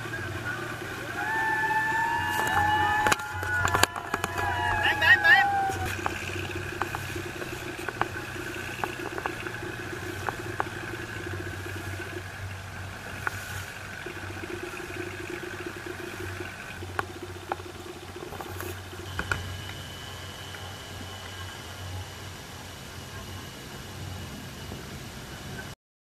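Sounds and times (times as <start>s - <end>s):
boat engine droning: 0.0s - 25.8s.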